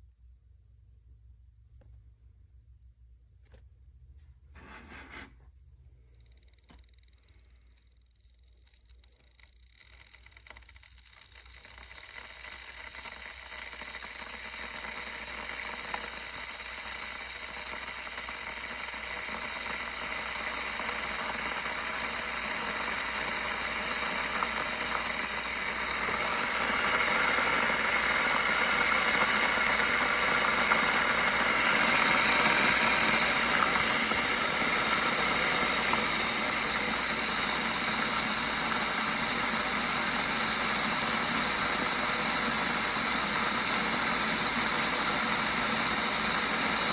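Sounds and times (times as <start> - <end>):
electric kettle heating water: 6.1 - 46.9.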